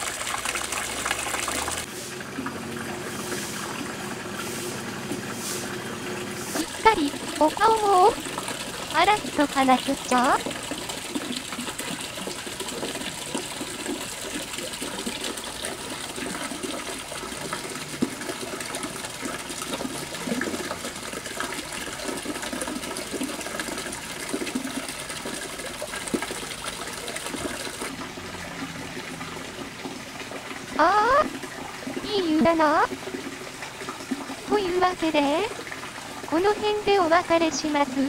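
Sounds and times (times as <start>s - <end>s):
water pouring and splashing: 0.0s - 38.0s.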